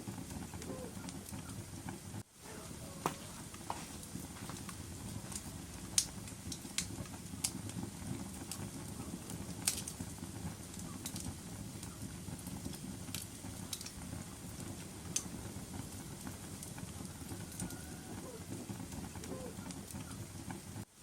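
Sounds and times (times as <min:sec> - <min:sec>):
fire flames rumbling: 0:00.0 - 0:21.0
wood fire crackling and popping: 0:00.0 - 0:21.0.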